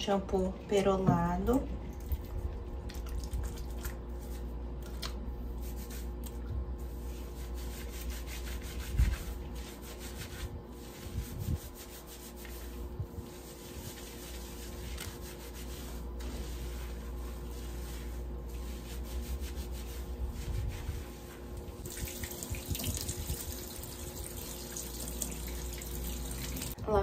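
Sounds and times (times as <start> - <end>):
low background hum: 0.0 - 27.0
hands rubbing wet hair: 2.1 - 26.8.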